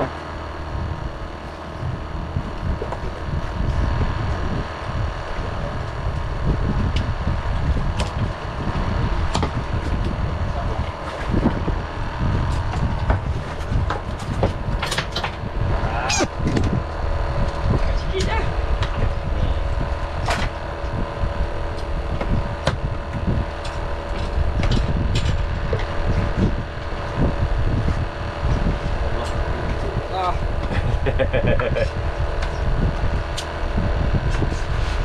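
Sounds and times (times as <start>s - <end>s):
boat engine rumble: 0.0s - 35.0s
wind buffeting microphone: 0.0s - 35.0s.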